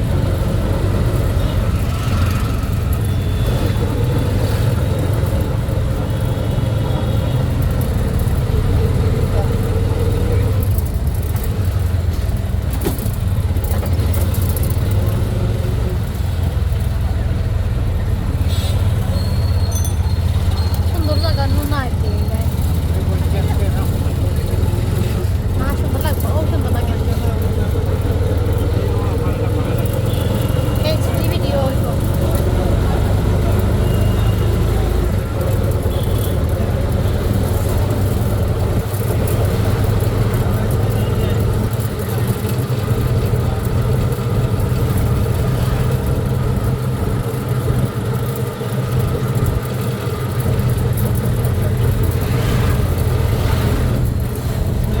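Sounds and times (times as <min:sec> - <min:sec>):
road noise: 0:00.0 - 0:55.0
vehicle engine rumble: 0:00.0 - 0:55.0.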